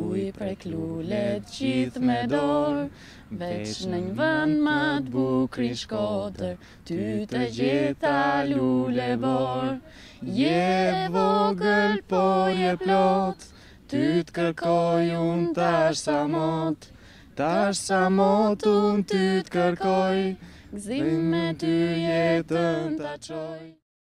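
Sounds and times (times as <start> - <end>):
a cappella singing: 0.0 - 23.8.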